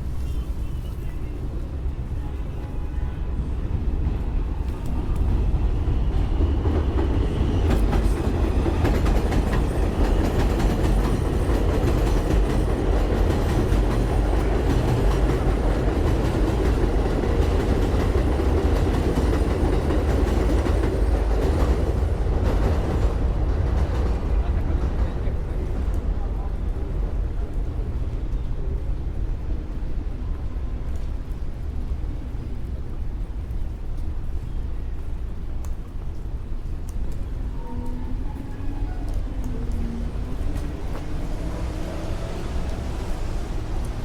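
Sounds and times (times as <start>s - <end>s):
train rumbling on elevated tracks: 0.0s - 44.0s.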